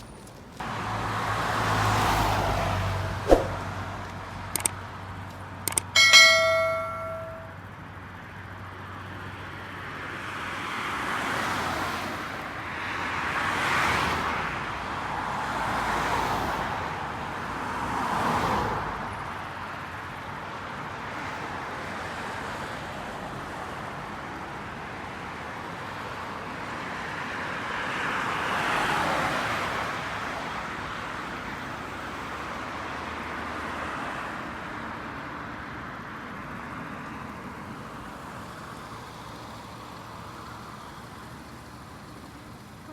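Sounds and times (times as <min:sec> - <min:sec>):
tyre and road noise hum: 0:00.0 - 0:42.9
vehicles passing close: 0:00.0 - 0:42.9.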